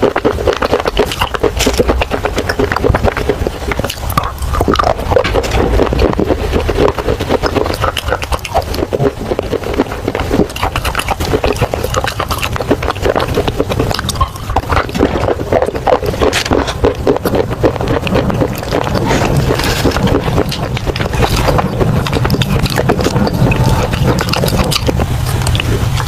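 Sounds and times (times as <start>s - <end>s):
clay pieces crunched and chewed: 0.0s - 26.0s.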